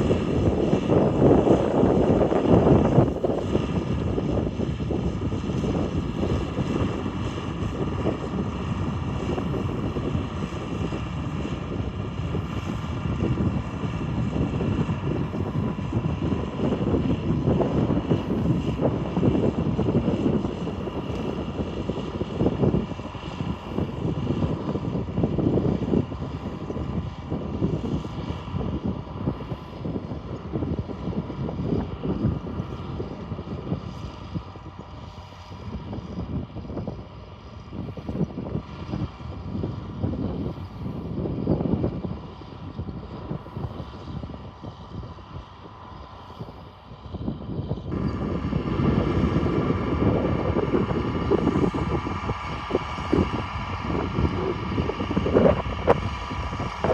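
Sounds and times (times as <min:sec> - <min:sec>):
tractor diesel engine under load: 0:00.0 - 0:36.5, 0:41.6 - 0:56.9.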